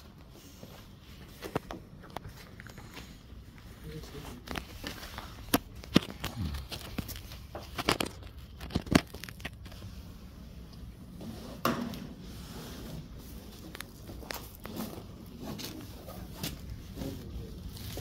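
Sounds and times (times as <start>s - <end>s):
rustling and crinkling: 0.0s - 18.0s.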